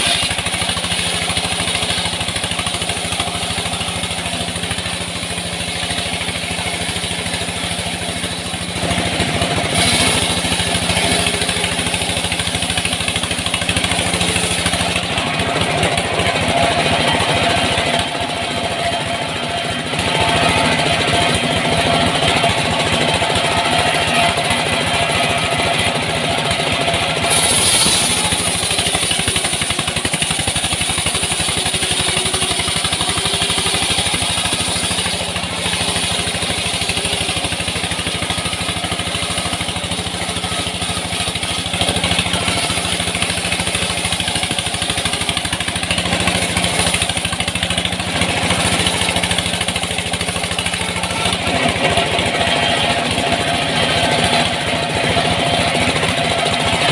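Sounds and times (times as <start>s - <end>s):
small engine running: 0.0s - 56.9s.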